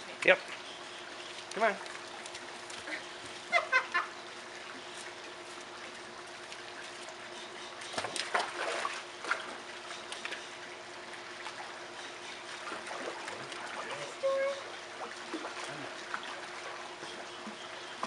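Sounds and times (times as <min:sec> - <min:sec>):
pool water lapping and splashing: 0:00.0 - 0:18.0.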